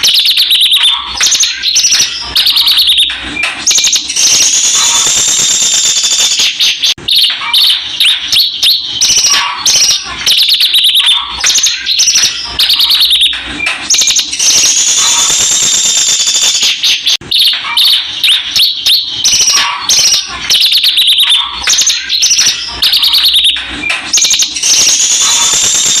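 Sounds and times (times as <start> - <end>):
bird singing chirps and trills: 0.0 - 26.0.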